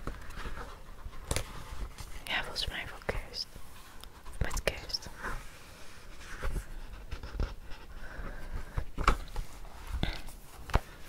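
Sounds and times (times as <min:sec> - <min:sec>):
soft scratching on microphone: 0:00.3 - 0:10.6.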